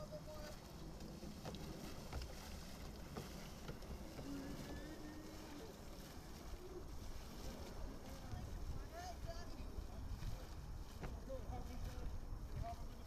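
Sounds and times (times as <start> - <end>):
faint distant voices: 0.0 - 13.0
water splashing around canoe: 0.0 - 13.0
wind rumble on microphone: 0.0 - 13.0.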